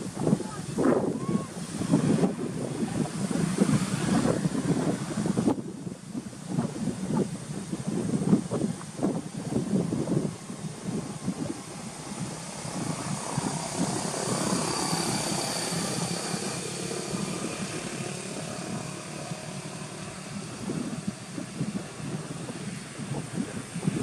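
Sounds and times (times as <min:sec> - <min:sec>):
distant engine drone: 0:00.0 - 0:24.0
wind buffeting microphone: 0:00.0 - 0:24.0.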